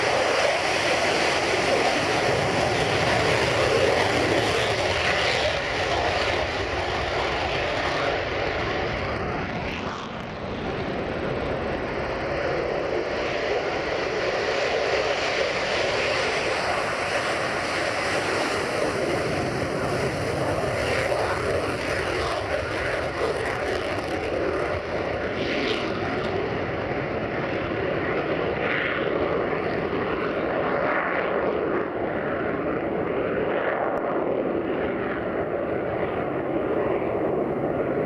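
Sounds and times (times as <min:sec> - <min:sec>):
jet engine roar: 0:00.0 - 0:38.0.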